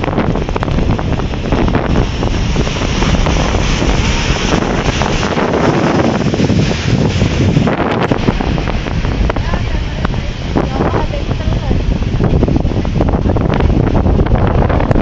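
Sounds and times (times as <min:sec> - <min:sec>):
surf washing: 0:00.0 - 0:15.0
wind buffeting microphone: 0:00.0 - 0:15.0.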